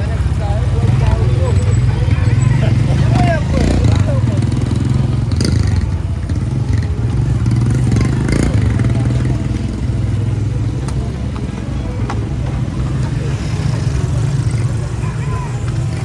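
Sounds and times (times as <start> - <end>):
motorcycle engine running: 0.0 - 16.0
street clatter: 0.0 - 16.0.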